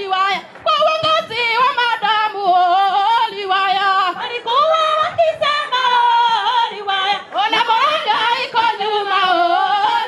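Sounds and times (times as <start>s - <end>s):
women singing together: 0.0s - 10.0s.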